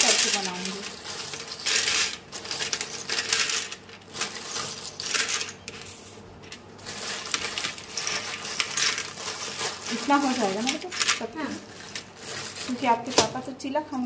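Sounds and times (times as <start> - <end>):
dry pasta rattling onto steel plate: 0.0 - 5.7, 6.4 - 13.3
plastic bag rustling: 0.0 - 14.0.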